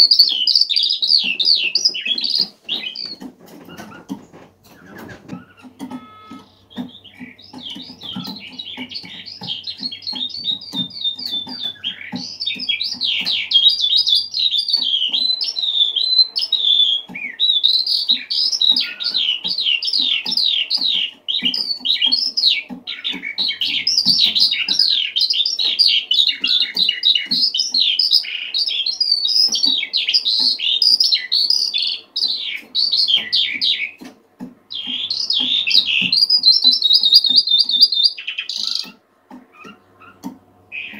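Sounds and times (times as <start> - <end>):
skylark singing: 0.0 - 34.1, 34.7 - 40.9.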